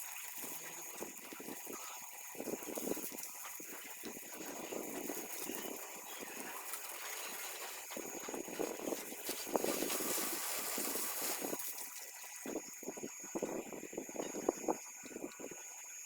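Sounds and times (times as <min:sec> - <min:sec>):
water spraying from hose: 0:00.0 - 0:13.6.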